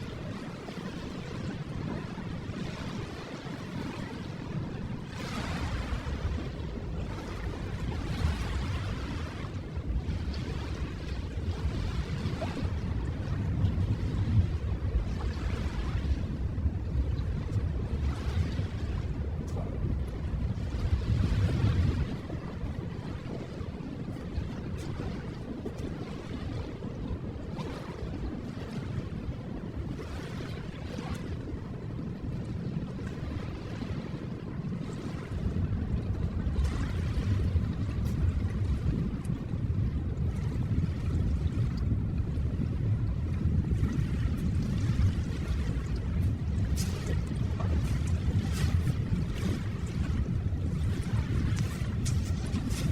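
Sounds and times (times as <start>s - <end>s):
ocean waves: 0.0s - 52.9s.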